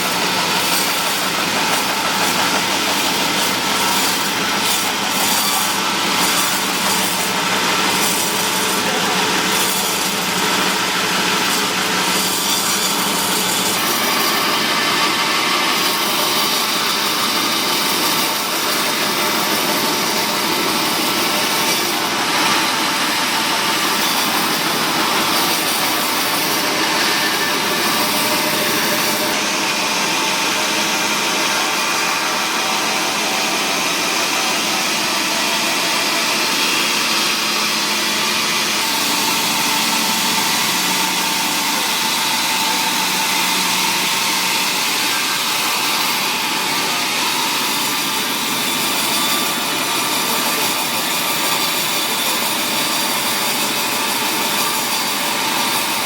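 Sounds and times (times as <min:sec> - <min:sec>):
woodworking machinery droning: 0:00.0 - 0:56.0.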